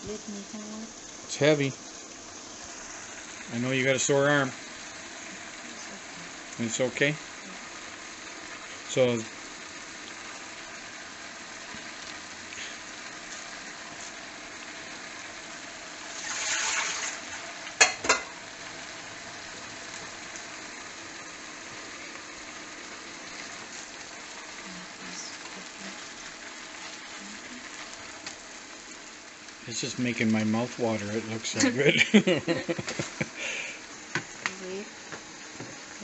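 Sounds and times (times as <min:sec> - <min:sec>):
food sizzling in a pot: 0:00.0 - 0:36.0.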